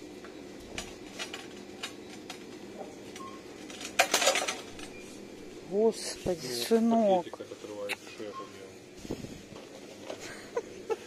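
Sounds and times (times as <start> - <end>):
supermarket hum: 0.0 - 11.0.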